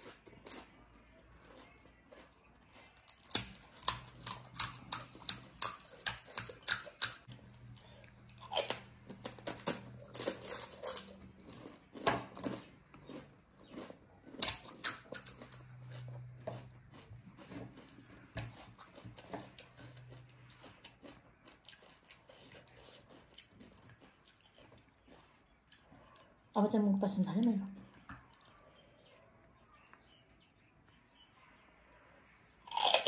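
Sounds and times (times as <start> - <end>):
crunchy chewing: 0.0 - 26.5, 27.8 - 33.0.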